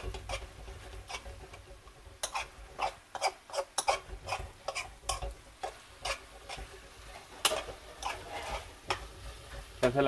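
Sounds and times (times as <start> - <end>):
metal spoon scraping a steel pan: 0.0 - 9.7
meat frying: 0.0 - 10.0.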